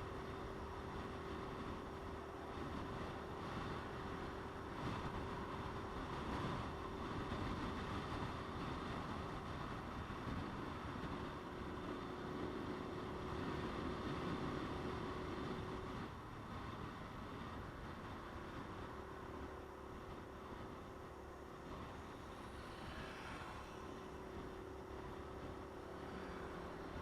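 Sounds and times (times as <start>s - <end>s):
motorcycle riding: 0.0s - 27.0s
steady hum: 0.0s - 27.0s
wind rushing over microphone: 0.0s - 27.0s.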